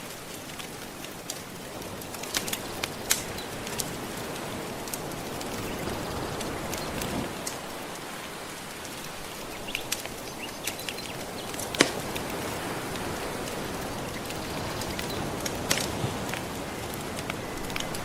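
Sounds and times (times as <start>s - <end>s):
gentle ocean waves: 0.0s - 18.0s
wood fire crackling: 0.0s - 18.0s.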